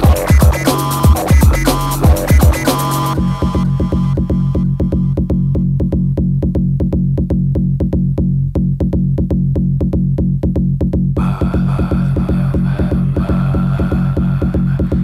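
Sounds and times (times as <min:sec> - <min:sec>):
drum machine beat: 0:00.0 - 0:15.0
sustained bass: 0:00.0 - 0:15.0.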